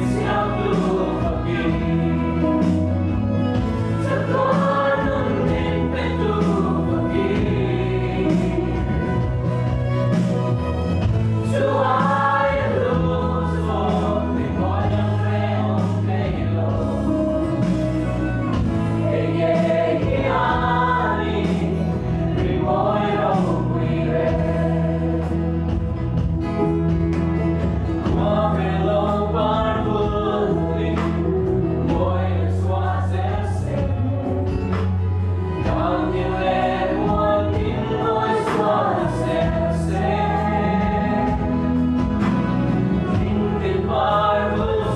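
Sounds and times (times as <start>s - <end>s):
voices singing together: 0.0s - 10.4s, 11.0s - 26.3s, 27.8s - 44.9s
instrumental accompaniment: 0.0s - 44.9s.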